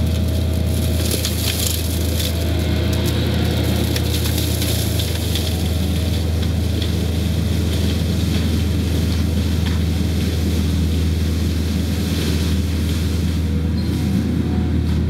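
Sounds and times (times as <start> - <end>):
track loader humming: 0.0 - 15.0.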